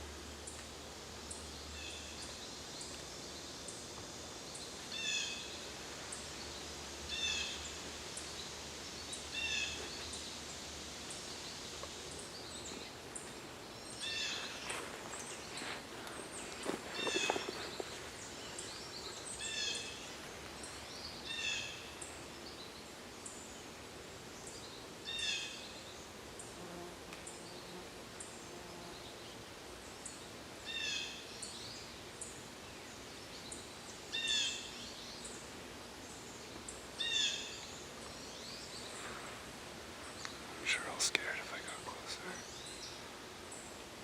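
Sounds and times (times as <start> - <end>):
outdoor background: 0.0 - 44.0.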